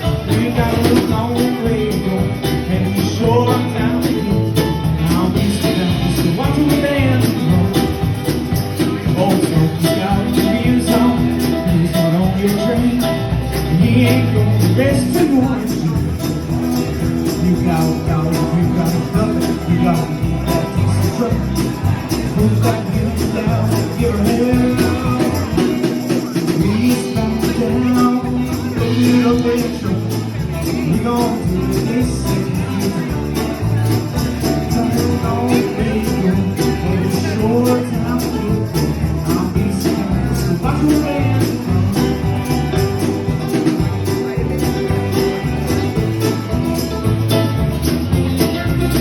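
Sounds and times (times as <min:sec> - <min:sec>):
guitar with bent notes: 0:00.0 - 0:49.0
live country band playing: 0:00.0 - 0:49.0.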